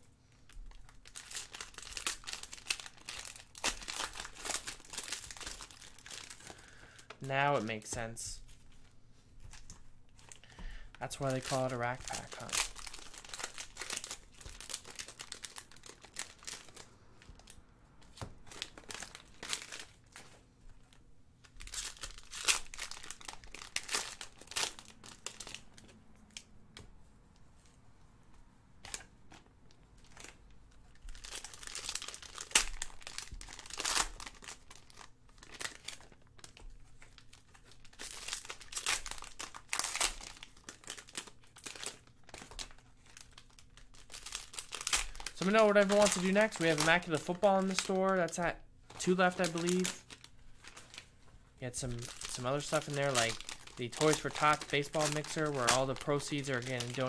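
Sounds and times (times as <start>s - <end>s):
foil wrappers crinkling and tearing: 0.3s - 26.4s, 28.8s - 57.0s.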